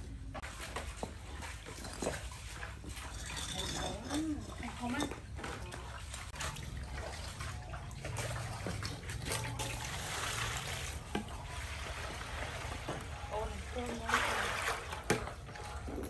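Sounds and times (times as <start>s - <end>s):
water pouring into metal basin: 1.7s - 15.9s.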